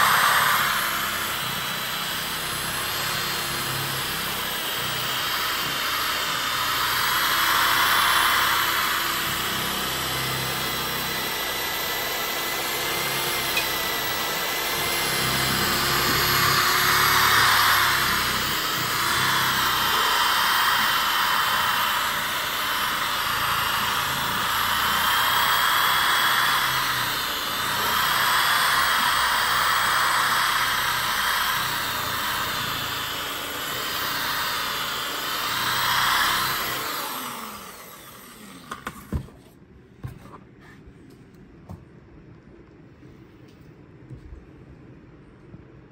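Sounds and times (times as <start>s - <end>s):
electric polisher motor whine: 0.0s - 39.2s.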